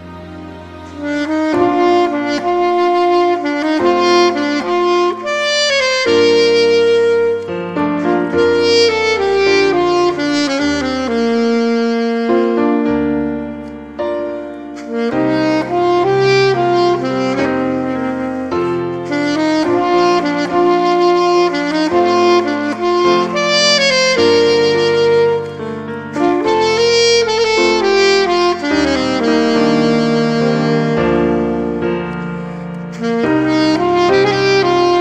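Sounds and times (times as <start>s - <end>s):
alto saxophone melody: 0.0s - 35.0s
piano accompaniment: 0.0s - 35.0s.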